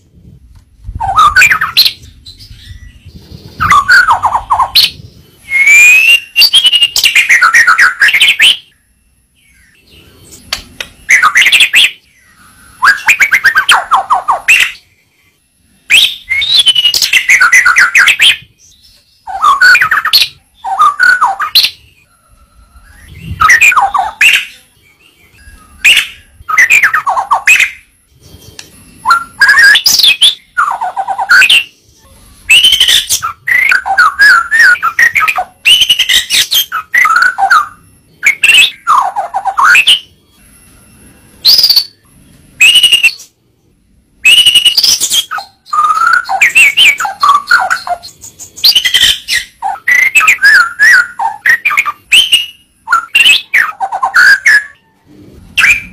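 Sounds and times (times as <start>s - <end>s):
bird singing whistles and trills: 0.8s - 43.4s, 44.2s - 55.0s, 55.6s - 55.9s.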